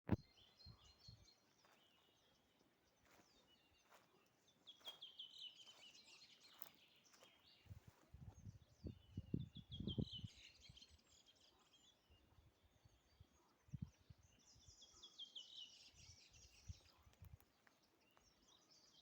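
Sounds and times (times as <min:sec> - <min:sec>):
songbirds chirping: 0:00.1 - 0:19.0.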